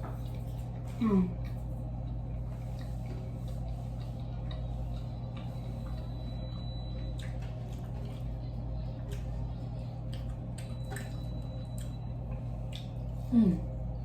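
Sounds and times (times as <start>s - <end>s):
steady low hum: 0.0s - 14.0s
chewing and wet mouth clicks: 1.4s - 13.3s.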